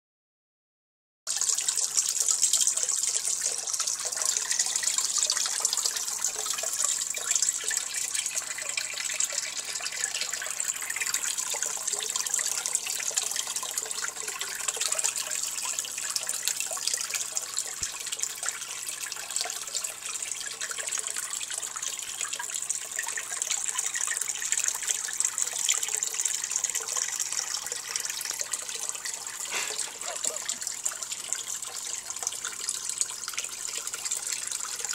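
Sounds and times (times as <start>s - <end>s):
water splashing into tank: 1.3s - 34.9s.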